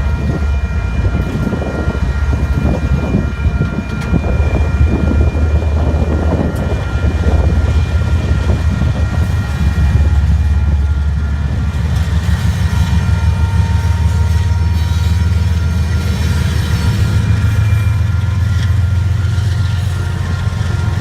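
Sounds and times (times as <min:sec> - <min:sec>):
diesel locomotives rumbling: 0:00.0 - 0:21.0.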